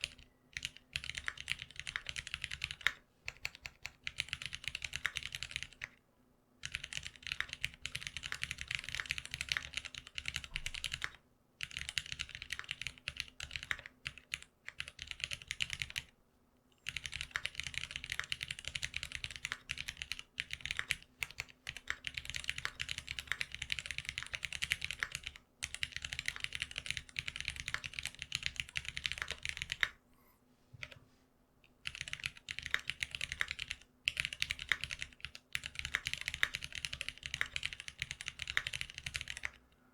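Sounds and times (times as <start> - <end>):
fast typing on mechanical keyboard: 0.0 - 6.0, 6.6 - 16.1, 16.8 - 30.0, 31.8 - 39.6.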